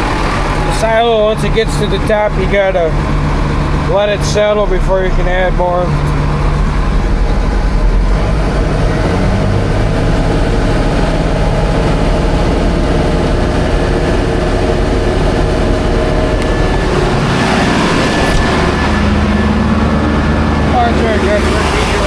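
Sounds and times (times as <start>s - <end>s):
machinery drone blowing silage: 0.0s - 22.0s
tractor engine running: 0.0s - 22.0s.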